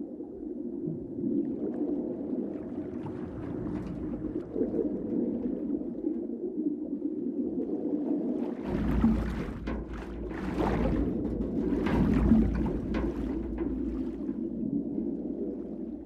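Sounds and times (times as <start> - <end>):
muffled underwater drone: 0.0 - 16.0.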